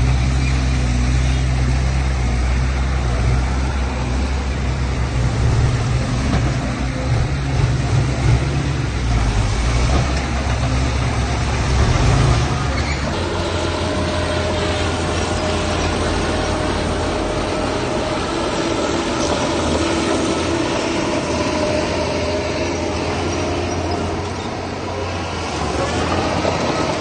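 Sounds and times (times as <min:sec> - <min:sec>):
diesel machinery engine rumbling: 0:00.0 - 0:27.0.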